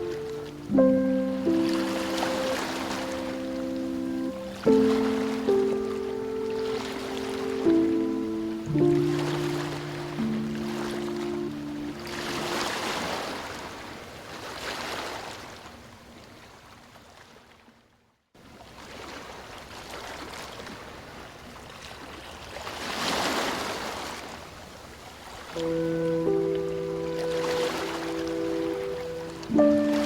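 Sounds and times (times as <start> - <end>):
ocean waves washing onto beach: 0.0 - 15.8, 18.6 - 30.0.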